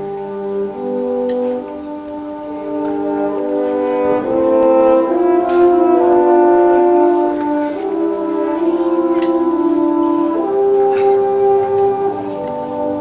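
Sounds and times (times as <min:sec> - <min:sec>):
brass band playing slow chords: 0:00.0 - 0:13.0.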